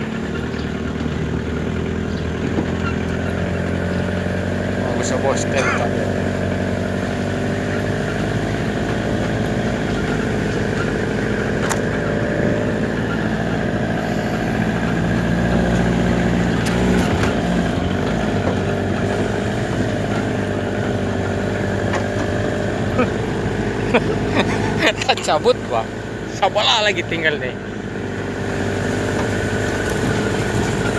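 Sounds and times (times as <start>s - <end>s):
engine running steadily: 0.0s - 30.9s.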